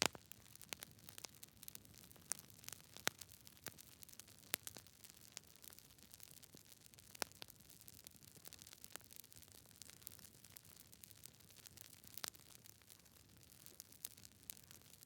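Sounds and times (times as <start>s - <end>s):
burning wood popping and snapping: 0.0s - 15.0s.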